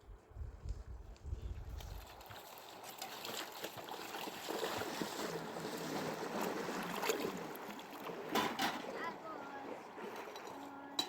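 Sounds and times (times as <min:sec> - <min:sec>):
water rushing and splashing: 0:02.0 - 0:11.0.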